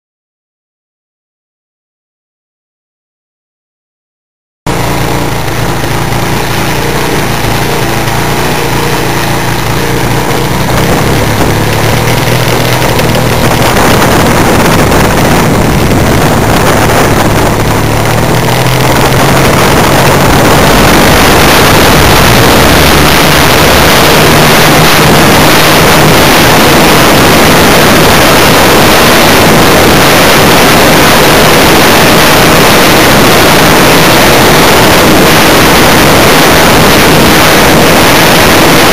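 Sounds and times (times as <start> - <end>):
model airplane engine and propeller: 4.7 - 38.9
wind noise on microphone: 4.7 - 38.9.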